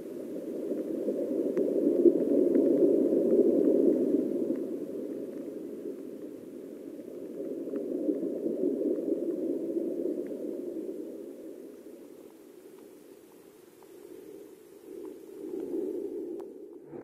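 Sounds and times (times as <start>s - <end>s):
faint ticks: 0.1s - 16.8s.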